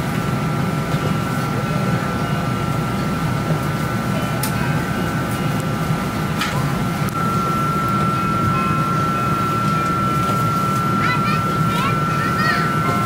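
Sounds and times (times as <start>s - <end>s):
air-conditioning rushing hum: 0.0s - 13.0s
steady high whine: 0.0s - 13.0s.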